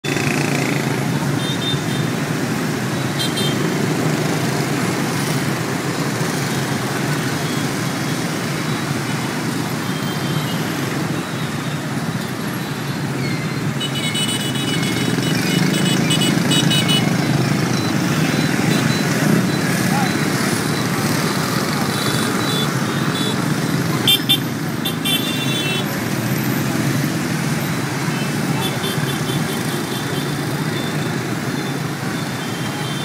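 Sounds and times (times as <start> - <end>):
dense motorbike and car traffic: 0.0 - 33.0.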